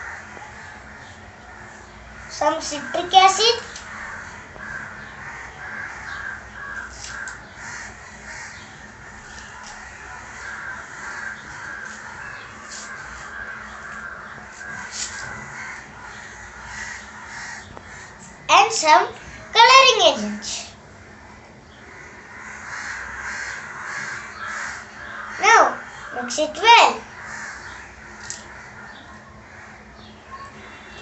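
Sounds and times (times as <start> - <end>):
birds calling: 0.0 - 31.0.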